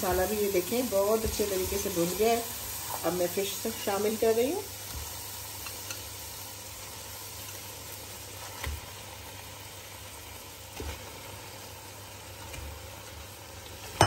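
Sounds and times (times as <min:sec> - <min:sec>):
masala sizzling in a pot: 0:00.0 - 0:14.0.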